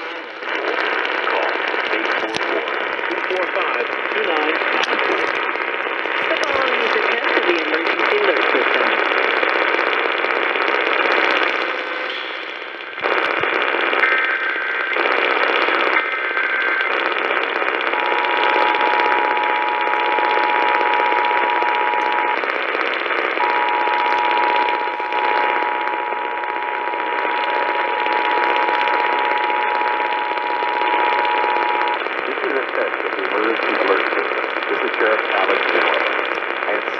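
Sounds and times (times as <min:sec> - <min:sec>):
radio static hiss: 0:00.0 - 0:36.9
warbling data tones: 0:00.0 - 0:36.9.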